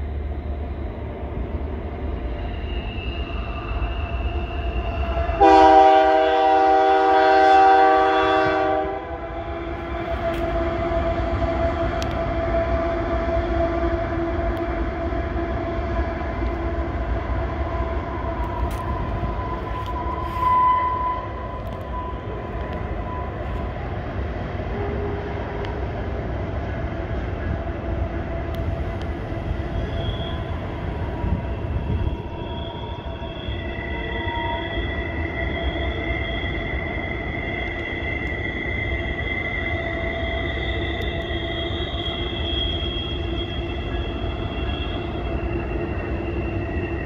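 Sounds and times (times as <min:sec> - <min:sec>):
freight train rumbling: 0:00.0 - 0:47.0
train wheels squealing: 0:00.0 - 0:47.0.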